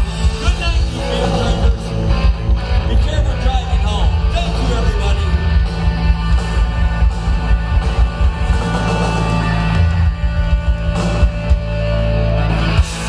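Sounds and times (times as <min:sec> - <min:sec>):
bass guitar: 0:00.0 - 0:13.0
live rock band: 0:00.0 - 0:13.0.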